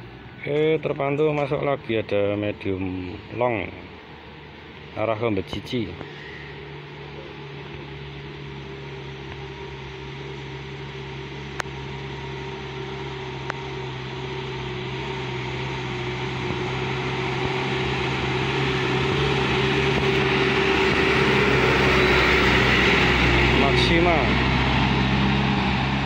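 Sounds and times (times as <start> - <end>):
bus diesel engine running: 0.0 - 26.0.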